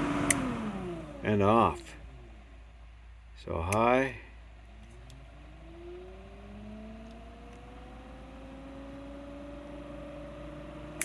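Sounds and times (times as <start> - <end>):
heater blower fan whirring: 0.0 - 11.0.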